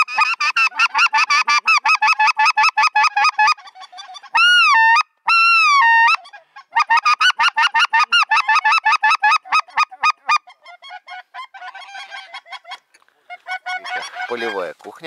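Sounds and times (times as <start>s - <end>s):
goose honking: 0.0s - 15.0s.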